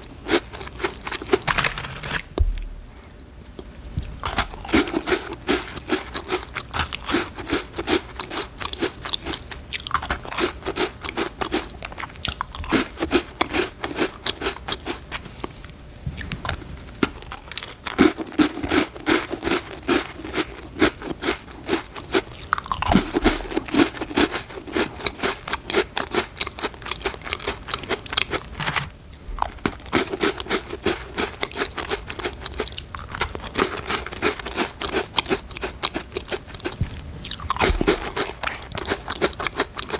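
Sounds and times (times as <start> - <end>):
crunching and chewing cookies: 0.0 - 39.9.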